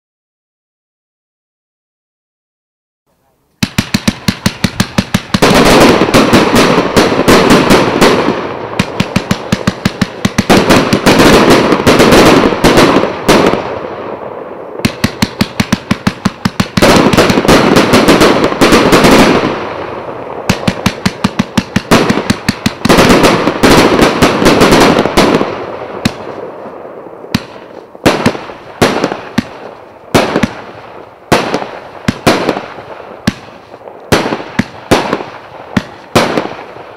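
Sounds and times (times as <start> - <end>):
firework launch shots: 3.6 - 26.7, 27.3 - 36.8
shells bursting overhead: 3.6 - 36.9.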